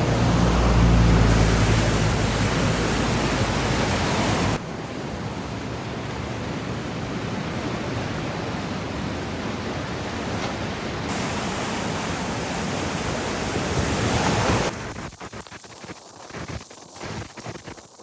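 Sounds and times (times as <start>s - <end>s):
floodwater rushing down river: 0.0s - 14.7s.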